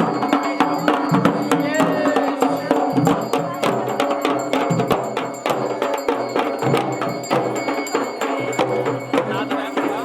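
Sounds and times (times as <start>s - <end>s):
drums beating: 0.0s - 10.0s.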